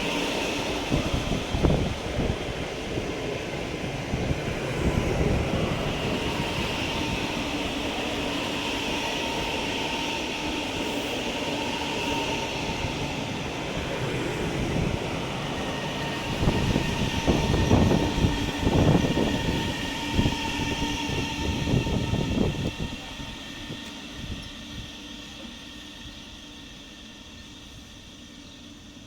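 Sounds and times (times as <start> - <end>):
train running hum: 0.0 - 29.0.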